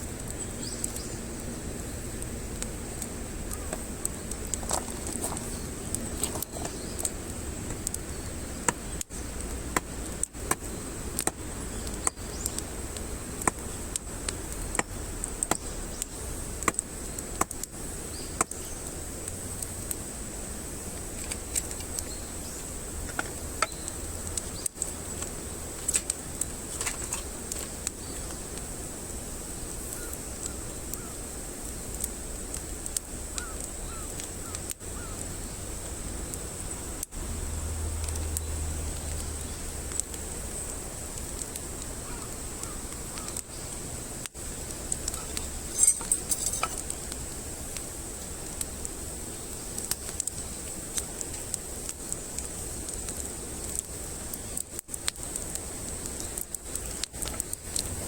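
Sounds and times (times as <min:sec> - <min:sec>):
campfire wood crackling: 0:00.0 - 0:58.0.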